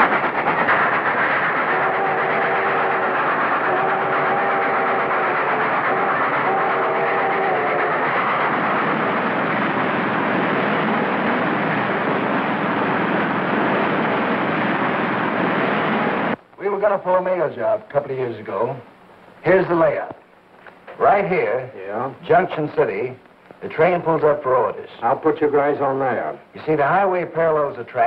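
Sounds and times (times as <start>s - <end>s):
steam train running: 0.0s - 18.8s, 20.9s - 28.0s.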